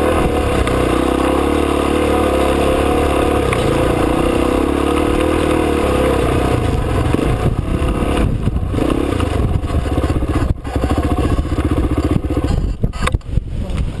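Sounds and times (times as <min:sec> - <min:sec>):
motorcycle engine revving: 0:00.0 - 0:13.1
another trail bike engine: 0:00.0 - 0:14.0.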